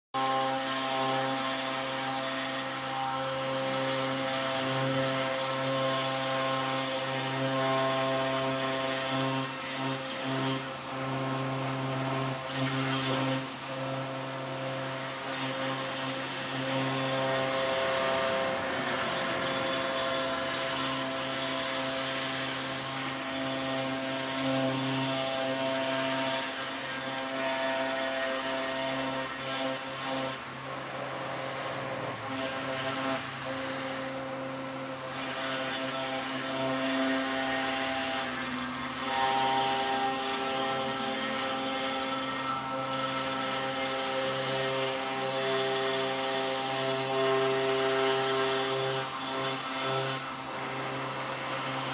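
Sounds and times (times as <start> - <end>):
hiss of stone cutting: 0.2 - 51.9
stone router motor hum: 0.2 - 51.9.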